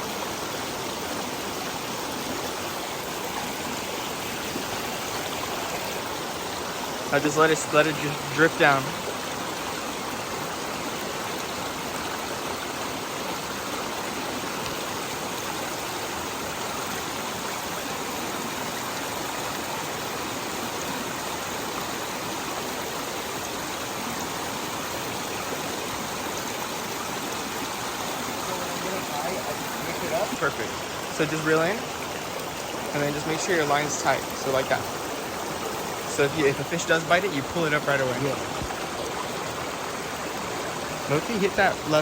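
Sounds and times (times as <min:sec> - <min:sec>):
creek water running: 0:00.0 - 0:42.0.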